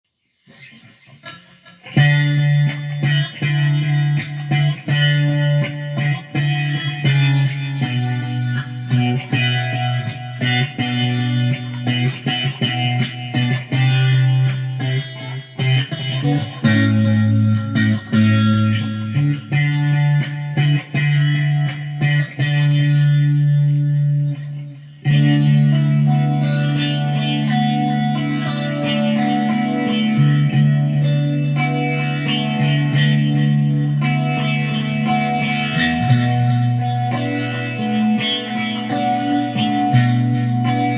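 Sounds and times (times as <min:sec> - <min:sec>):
guitar with echo effect: 0:00.1 - 0:40.9.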